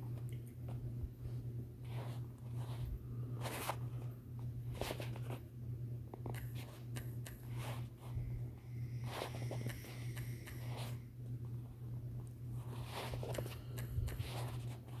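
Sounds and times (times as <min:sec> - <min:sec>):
soft rustles and handling noise: 0:00.0 - 0:05.5, 0:06.1 - 0:08.3, 0:09.0 - 0:15.0
steady low hum: 0:00.0 - 0:15.0.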